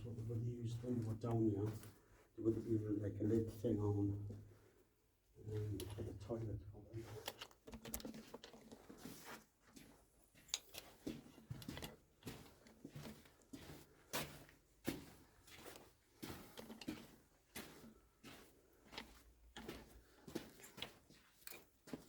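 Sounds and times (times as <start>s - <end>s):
footsteps and scuffs in tunnel: 0.0s - 7.4s, 8.0s - 22.0s.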